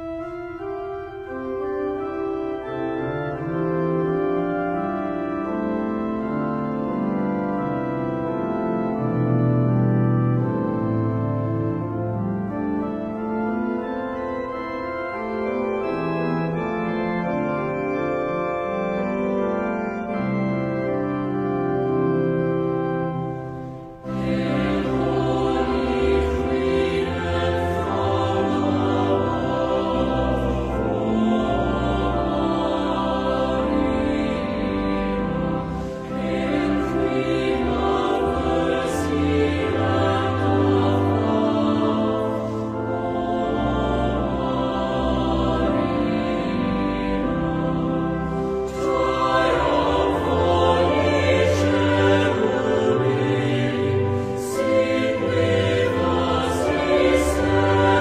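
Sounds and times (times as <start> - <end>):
organ playing slow chords: 0.0 - 58.0.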